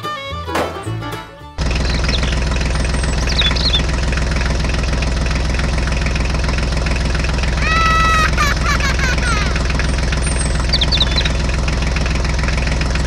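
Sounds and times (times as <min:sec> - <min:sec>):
tractor engine idling: 0:00.2 - 0:13.0.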